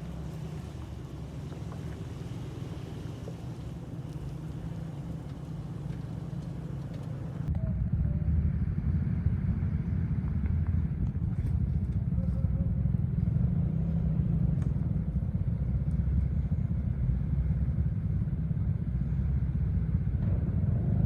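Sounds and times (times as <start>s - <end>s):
pickup truck engine rumble: 0.0s - 21.0s.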